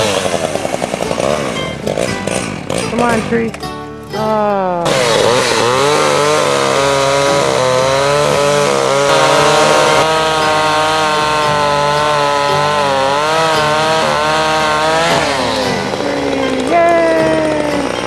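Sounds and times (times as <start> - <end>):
chainsaw cutting tree trunk: 0.0 - 3.8, 4.8 - 18.0.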